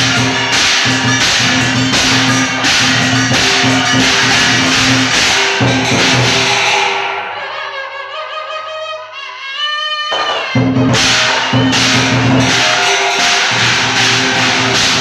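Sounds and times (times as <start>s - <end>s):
drum and cymbals beating: 0.0s - 7.4s, 10.1s - 15.0s.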